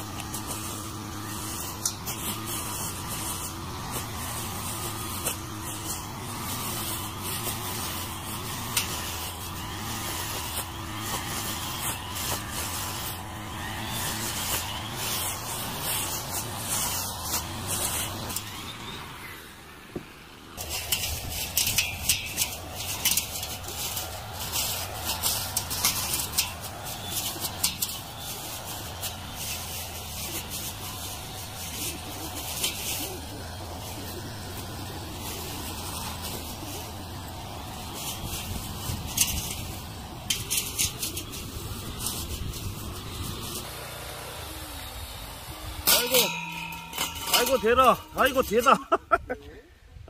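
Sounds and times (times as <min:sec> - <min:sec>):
trimmer line ticking against grass: 0:00.0 - 0:18.8, 0:20.6 - 0:44.1
brush cutter engine humming: 0:00.0 - 0:49.0.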